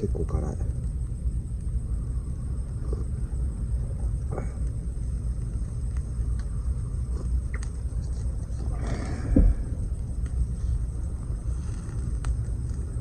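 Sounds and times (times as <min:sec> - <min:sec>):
low fire rumble: 0:00.0 - 0:13.0
campfire crackles and pops: 0:00.7 - 0:08.6, 0:09.3 - 0:13.0.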